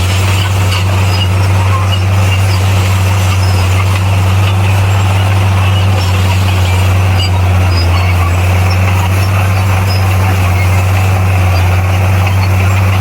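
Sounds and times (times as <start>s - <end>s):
diesel engine of earthmoving machine: 0.0s - 13.0s.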